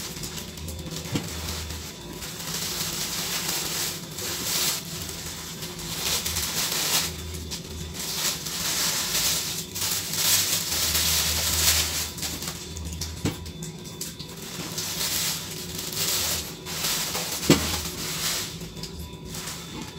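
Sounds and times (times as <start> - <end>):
plastic packaging rustling: 0.0 - 19.9.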